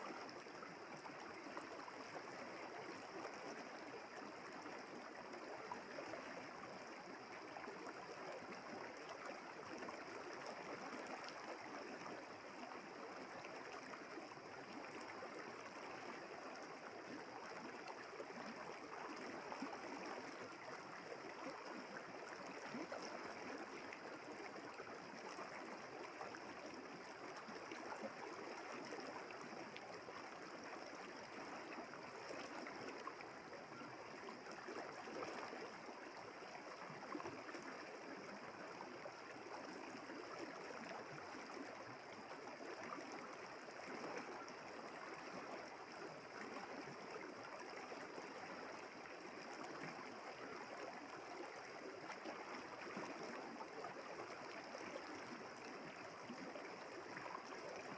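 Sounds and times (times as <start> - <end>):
river water flowing: 0.0 - 57.9.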